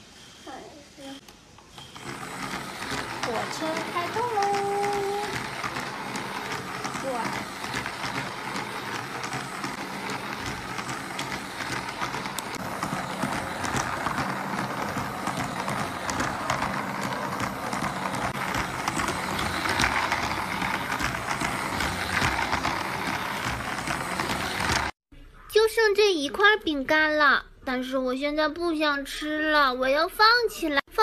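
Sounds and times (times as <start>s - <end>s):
toy train whirring and clattering: 0.0s - 25.0s.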